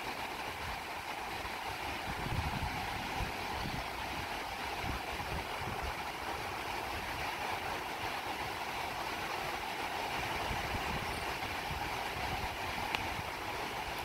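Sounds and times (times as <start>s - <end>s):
wind rumbling on microphone: 0.1s - 14.0s.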